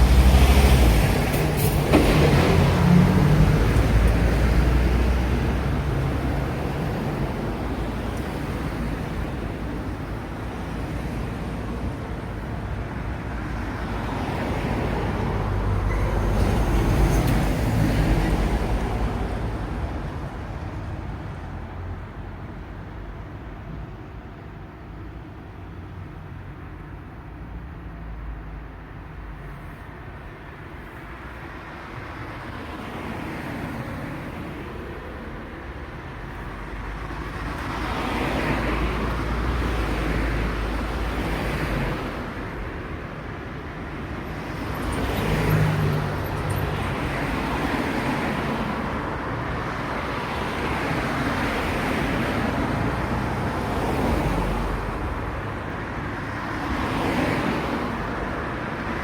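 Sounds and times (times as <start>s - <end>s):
cars passing: 0.0s - 23.0s, 27.8s - 59.0s.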